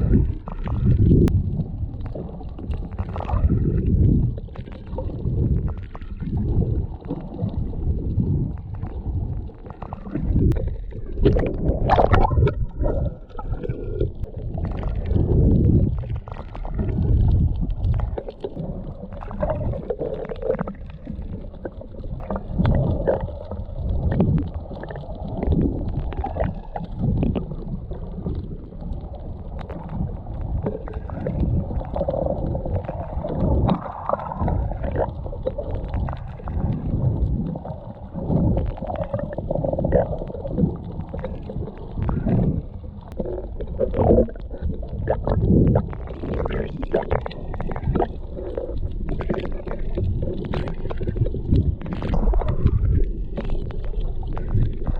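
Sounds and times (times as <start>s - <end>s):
muffled underwater sloshing and gurgling: 0.0s - 54.9s.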